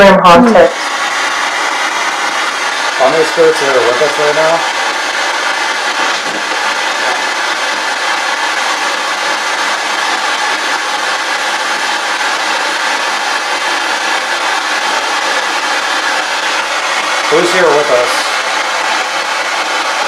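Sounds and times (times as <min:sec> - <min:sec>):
radio static hiss: 0:00.4 - 0:18.6.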